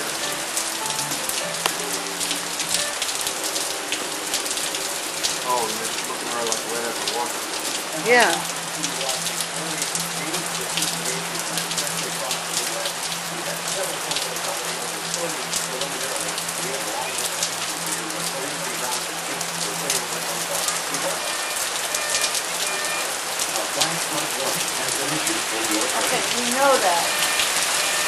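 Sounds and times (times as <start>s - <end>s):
heavy rain on pavement: 0.0s - 28.0s.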